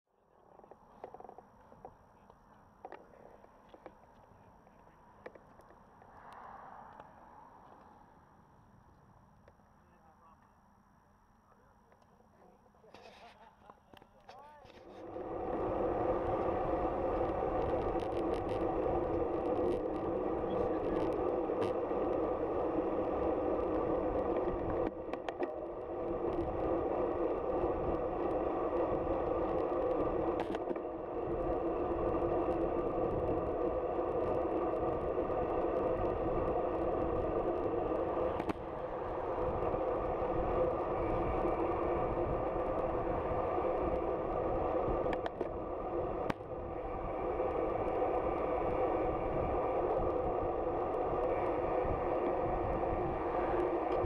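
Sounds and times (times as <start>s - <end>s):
bicycle riding hum: 0.1s - 54.0s
low wind rumble: 0.2s - 10.3s, 14.5s - 54.0s.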